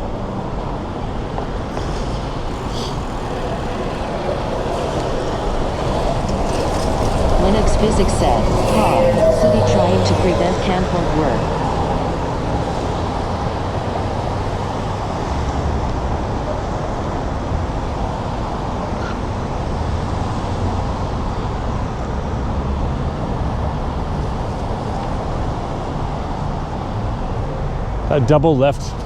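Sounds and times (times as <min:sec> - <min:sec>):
wind rumble on microphone: 0:00.0 - 0:28.1
traffic and road noise: 0:00.0 - 0:29.0.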